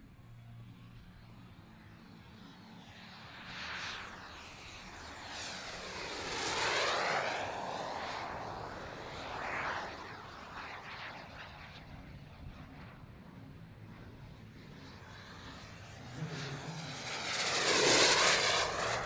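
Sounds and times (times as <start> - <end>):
jet model aircraft passing: 0.2 - 19.0.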